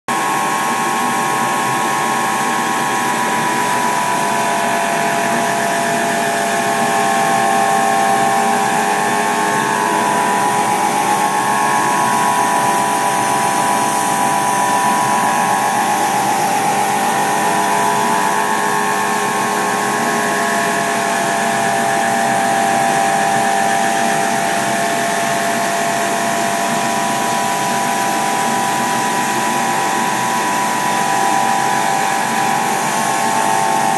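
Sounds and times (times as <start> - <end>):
laser cutter humming and whining: 0.1 - 33.9.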